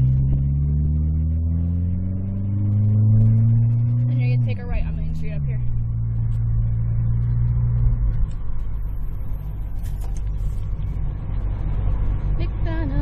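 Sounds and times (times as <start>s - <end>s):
car engine rumble: 0.0s - 13.0s
road rumble: 0.0s - 13.0s.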